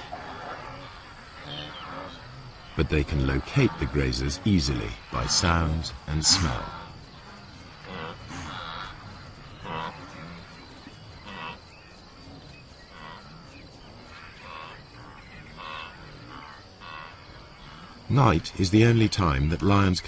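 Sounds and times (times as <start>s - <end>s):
grazing animals calling: 0.0s - 20.0s.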